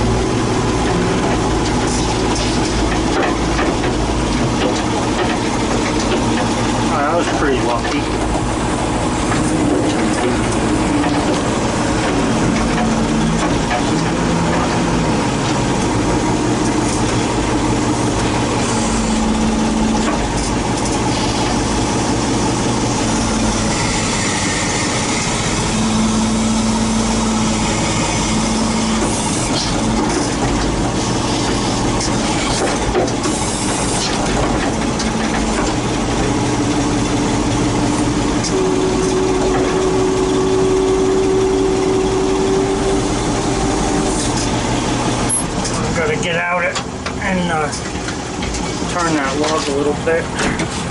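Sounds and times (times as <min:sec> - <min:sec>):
tractor engine rattling: 0:00.0 - 0:50.9.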